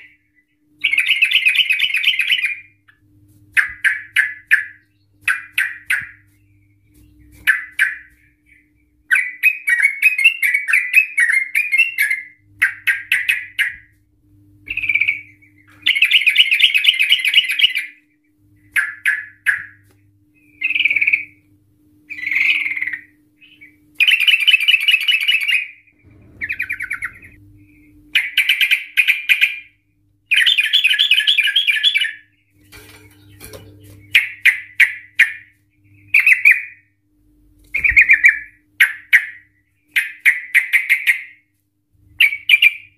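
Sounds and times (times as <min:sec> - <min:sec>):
bird chattering and trilling: 0:00.8 - 0:03.0, 0:03.6 - 0:13.9, 0:14.6 - 0:18.0, 0:18.6 - 0:19.8, 0:20.4 - 0:21.4, 0:22.1 - 0:29.7, 0:30.3 - 0:36.8, 0:37.7 - 0:41.3.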